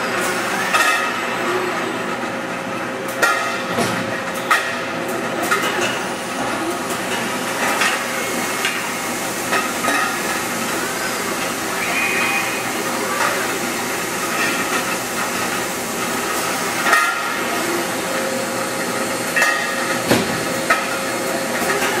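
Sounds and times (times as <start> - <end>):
running machines din: 0.0 - 22.0.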